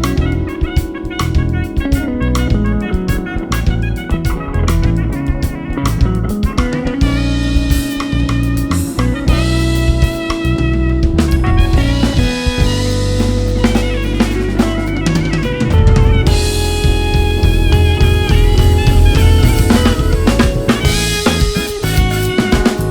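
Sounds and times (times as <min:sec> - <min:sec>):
drum kit with cymbals: 0:00.0 - 0:22.9
guitar: 0:00.0 - 0:22.9
sustained bass line: 0:00.0 - 0:22.9.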